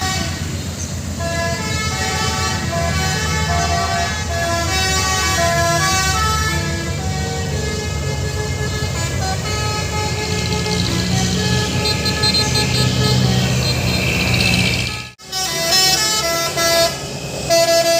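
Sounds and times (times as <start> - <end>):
musical air horn melody: 0.0 - 0.6, 1.2 - 17.9
truck engine rumble: 0.0 - 17.9.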